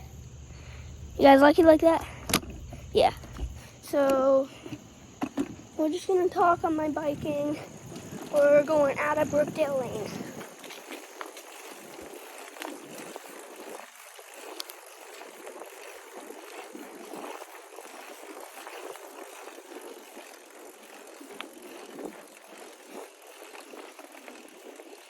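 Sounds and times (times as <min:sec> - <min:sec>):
bicycle tyres rolling on road: 0:00.3 - 0:25.0
bicycle clicks and rattles: 0:01.2 - 0:25.0.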